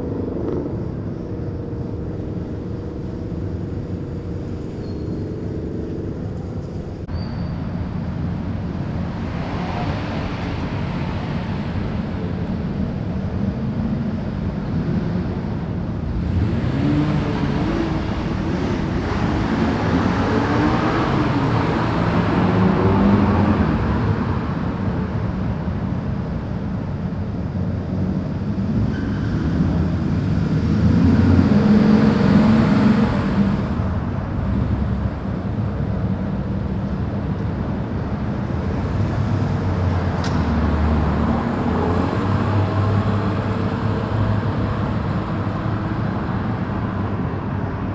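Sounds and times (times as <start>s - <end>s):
car engines through loud exhausts: 0.0s - 47.9s.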